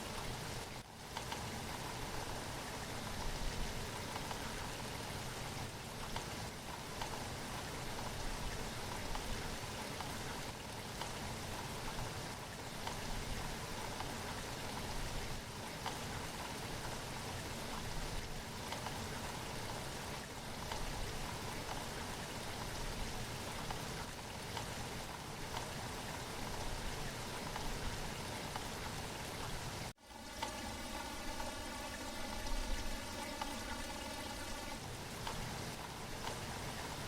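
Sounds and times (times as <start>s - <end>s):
raindrops ticking: 0.0s - 37.0s
steady rain falling: 0.0s - 37.0s.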